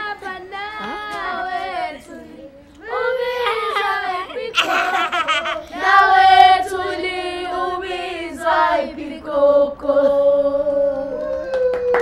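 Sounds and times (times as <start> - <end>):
children singing a cappella: 0.0 - 11.2.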